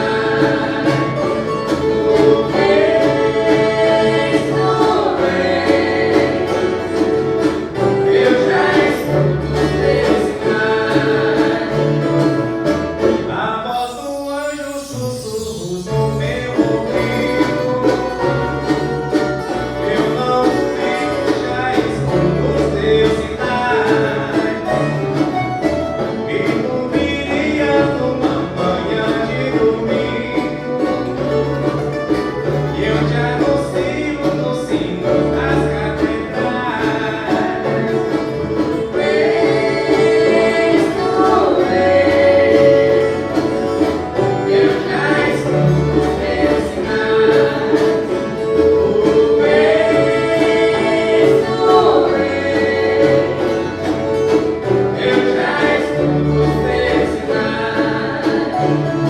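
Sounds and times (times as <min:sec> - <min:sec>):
plucked string ensemble strumming: 0:00.0 - 0:59.0
voices singing: 0:00.0 - 0:59.0.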